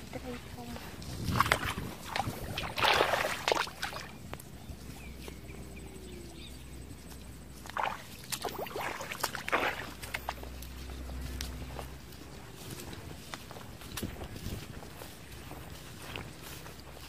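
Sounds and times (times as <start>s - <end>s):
bare feet splashing in mud: 0.9s - 5.4s, 7.1s - 17.0s.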